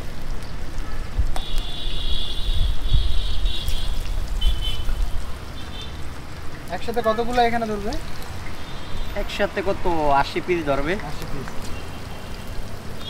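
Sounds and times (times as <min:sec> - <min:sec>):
oil sizzling with pops: 0:00.0 - 0:09.4, 0:10.1 - 0:13.0.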